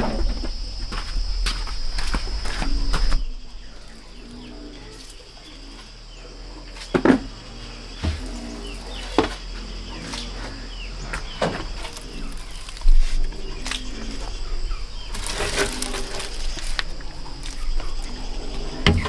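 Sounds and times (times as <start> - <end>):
birds chirping: 0.0 - 19.0
high insect drone: 0.0 - 19.0.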